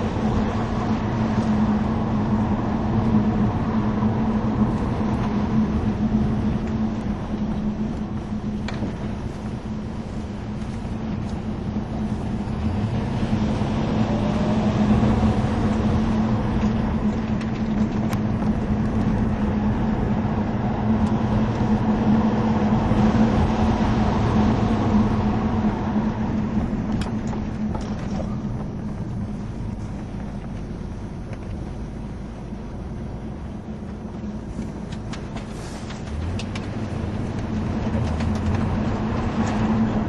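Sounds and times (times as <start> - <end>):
car engine running: 0.0 - 40.0
road noise: 0.0 - 40.0.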